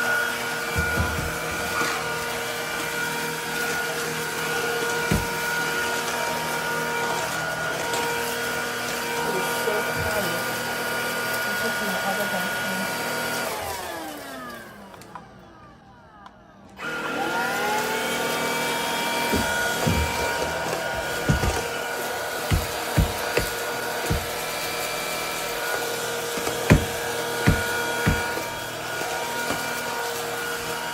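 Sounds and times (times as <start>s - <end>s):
stick vacuum motor whining: 0.0s - 30.9s.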